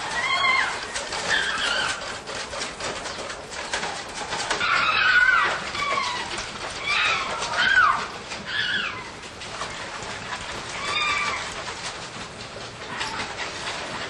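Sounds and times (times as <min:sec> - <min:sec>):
animals calling: 0:00.0 - 0:11.8.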